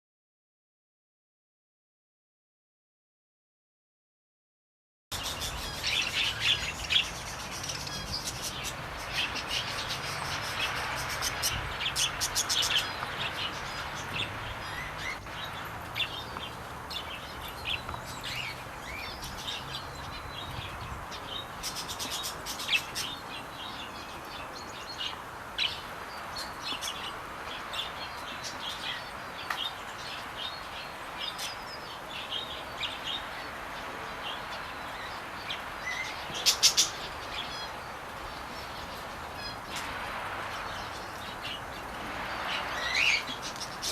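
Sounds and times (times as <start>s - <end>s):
small birds chirping: 5.1s - 43.9s.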